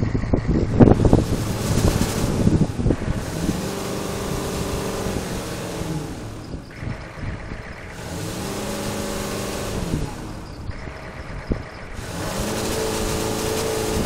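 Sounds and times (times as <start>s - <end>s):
diesel engine revving: 0.0s - 14.0s.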